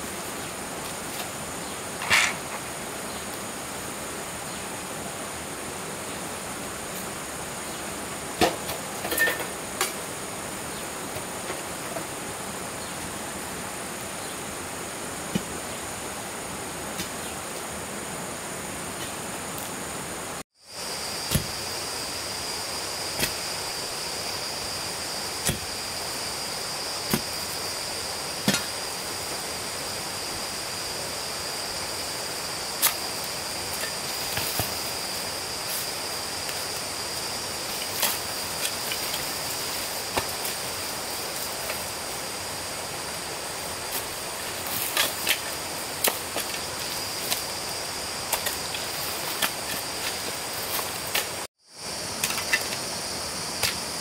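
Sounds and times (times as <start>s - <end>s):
high drone of insects: 0.0s - 54.0s.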